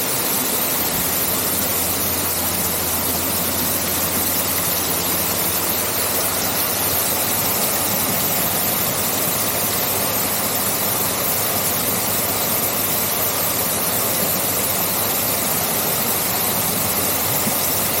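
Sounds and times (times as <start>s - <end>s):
waterfall pouring into a pool: 0.0s - 18.0s.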